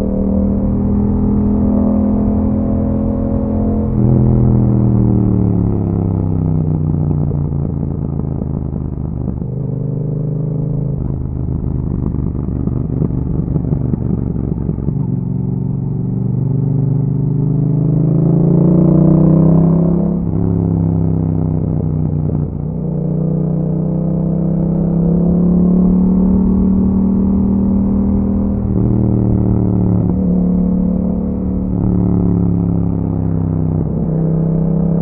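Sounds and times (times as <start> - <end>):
motorcycle engine: 0.0 - 35.0.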